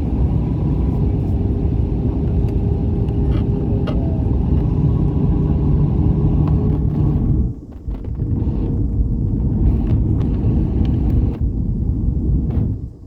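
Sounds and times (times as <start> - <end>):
faint constant hum: 0.0 - 13.0
low rumble of aircraft engines: 0.0 - 13.0.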